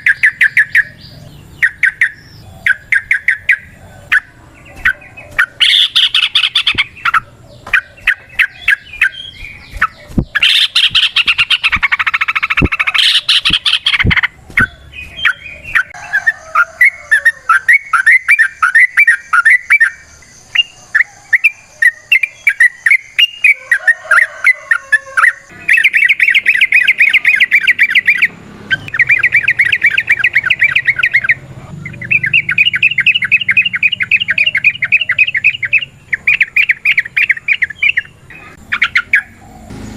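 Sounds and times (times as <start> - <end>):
faint high-pitched chirping: 0.0 - 39.7
birds chattering calls: 0.0 - 39.9.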